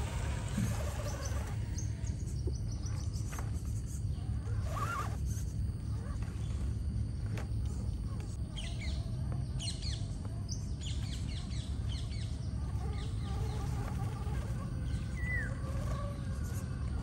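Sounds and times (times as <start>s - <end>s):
birds chirping: 0.0s - 17.0s
low outdoor background rumble: 0.0s - 17.0s.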